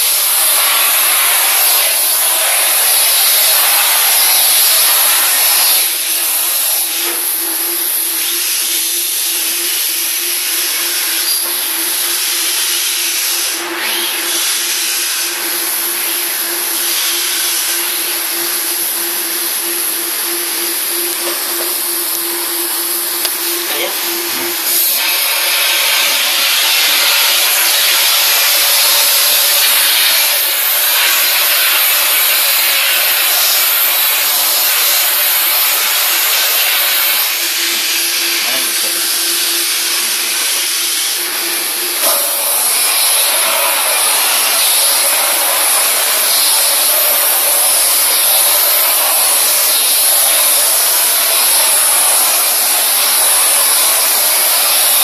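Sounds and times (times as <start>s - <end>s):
steam cleaner machine hum: 0.0s - 55.0s
steam hissing from nozzle: 0.0s - 55.0s.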